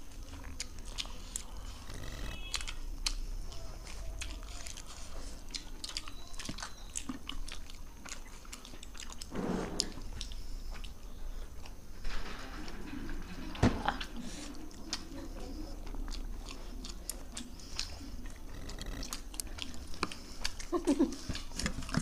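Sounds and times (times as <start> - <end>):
lip and tongue clicks: 0.0 - 11.8, 14.1 - 22.0
people chewing soft food: 0.0 - 22.0.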